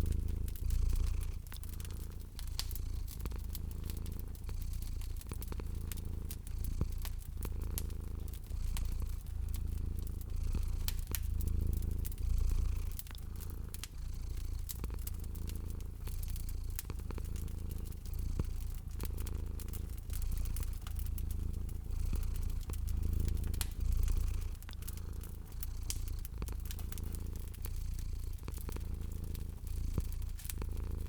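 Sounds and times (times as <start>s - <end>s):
cat purring: 0.0s - 31.0s
wood fire crackling: 0.0s - 31.0s.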